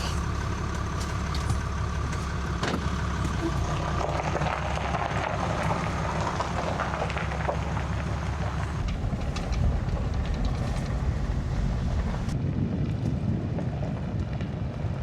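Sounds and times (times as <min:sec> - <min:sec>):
light rattles: 0:00.0 - 0:12.4
truck engine and road rumble: 0:00.0 - 0:15.0.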